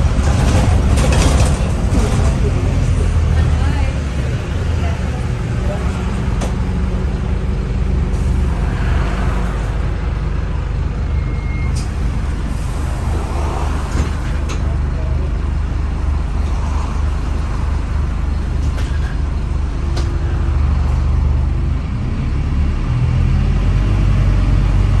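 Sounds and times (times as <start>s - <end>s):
bus body rattles: 0.0s - 8.8s, 9.6s - 22.0s
bus diesel engine drone: 0.0s - 25.0s
road noise: 0.0s - 25.0s.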